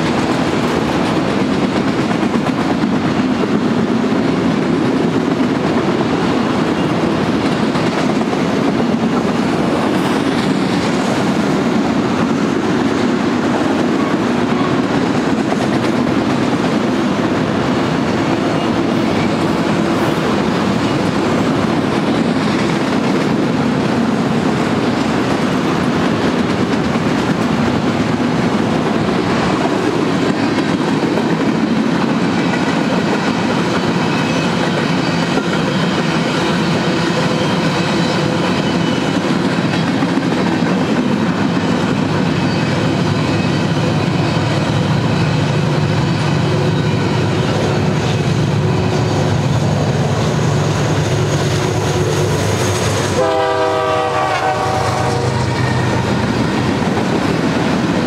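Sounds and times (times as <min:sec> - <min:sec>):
steel train wheels on rail: 0:00.0 - 0:58.0.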